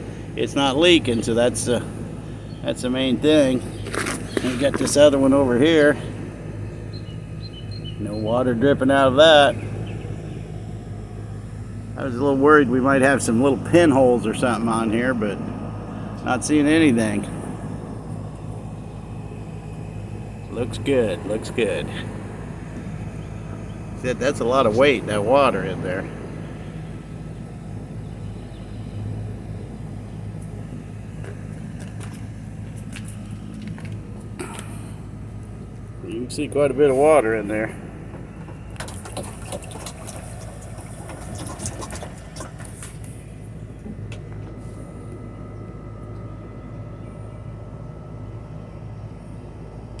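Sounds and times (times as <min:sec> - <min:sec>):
low mechanical hum: 0:00.0 - 0:50.0.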